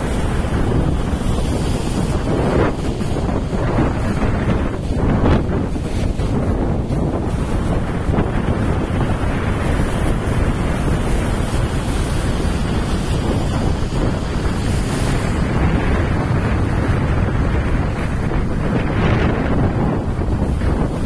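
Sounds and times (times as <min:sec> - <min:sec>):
ocean surf breaking on rocks: 0:00.0 - 0:21.0
wind buffeting microphone: 0:00.0 - 0:21.0.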